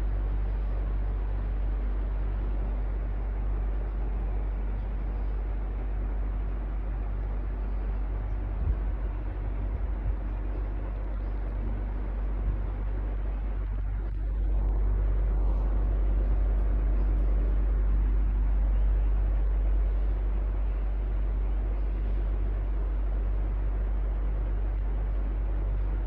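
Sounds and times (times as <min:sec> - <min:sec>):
electric fan whirring: 0:00.0 - 0:26.0.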